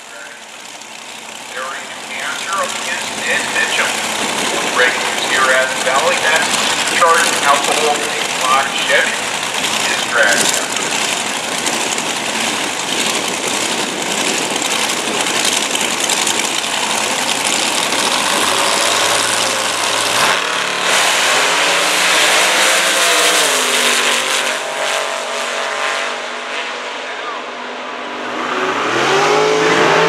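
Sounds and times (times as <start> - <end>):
race engines roaring: 0.0 - 30.0.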